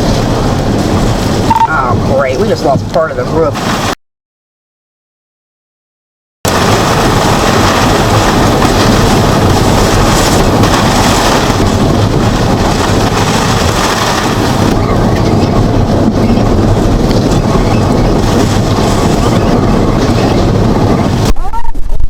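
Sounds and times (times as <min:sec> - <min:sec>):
wind buffeting microphone: 0:00.0 - 0:04.0, 0:06.5 - 0:22.0.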